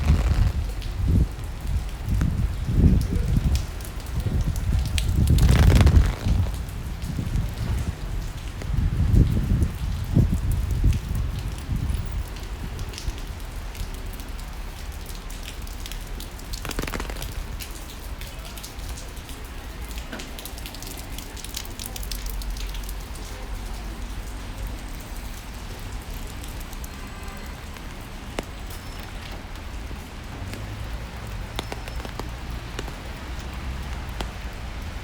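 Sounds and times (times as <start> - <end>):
rain drops ticking: 0.0 - 35.0.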